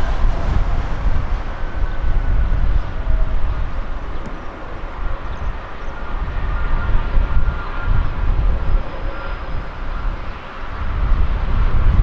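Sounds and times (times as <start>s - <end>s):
jet engines roaring: 0.0s - 12.0s
wind buffeting microphone: 0.0s - 12.0s.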